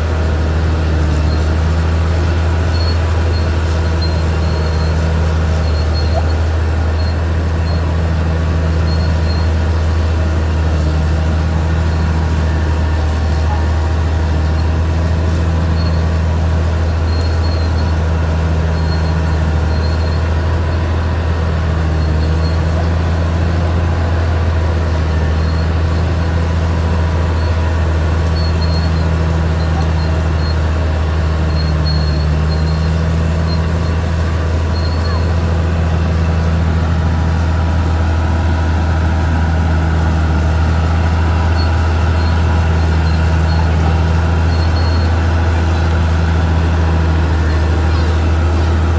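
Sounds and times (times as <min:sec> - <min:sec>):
bulldozer diesel engine droning: 0:00.0 - 0:48.9.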